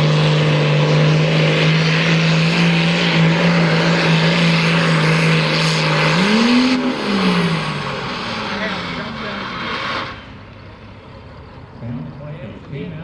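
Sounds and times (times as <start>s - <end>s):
tractor engine revving under load: 0.0s - 10.5s.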